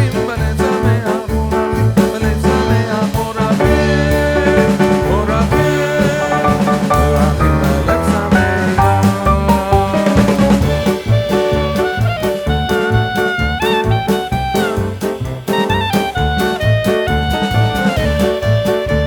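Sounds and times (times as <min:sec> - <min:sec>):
music with bass beat: 0:00.0 - 0:19.0
person singing: 0:00.0 - 0:19.0.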